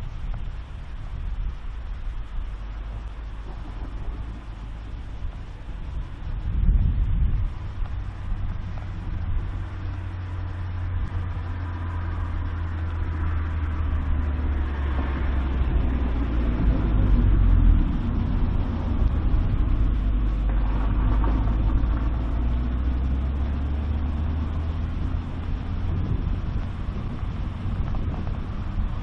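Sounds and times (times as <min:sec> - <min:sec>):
vehicle engine rumble: 0:00.0 - 0:29.0.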